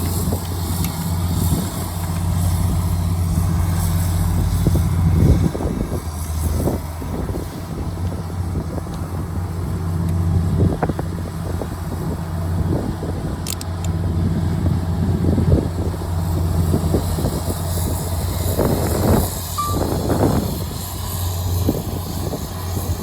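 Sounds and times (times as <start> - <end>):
heavy machinery diesel engine running: 0.0 - 23.0.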